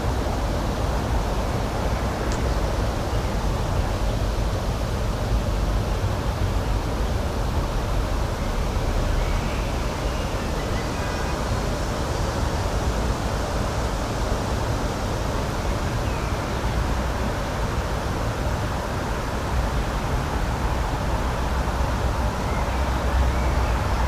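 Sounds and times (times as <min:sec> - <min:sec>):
rushing outdoor ambient noise: 0:00.0 - 0:24.0.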